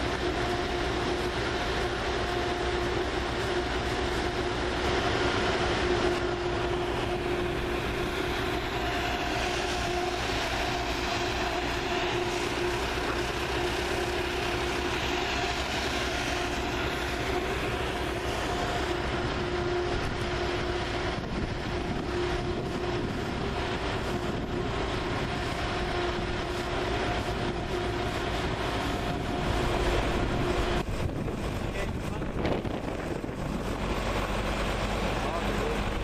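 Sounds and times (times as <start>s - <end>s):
constant machine whine: 0.0s - 36.0s
diesel engine running: 0.0s - 36.0s.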